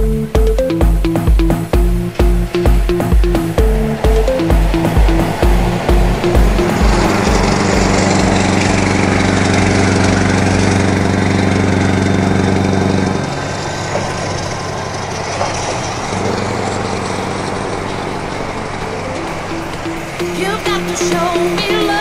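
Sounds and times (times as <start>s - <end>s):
diesel truck engine cruising: 0.0s - 22.0s
road and wind noise: 0.0s - 22.0s.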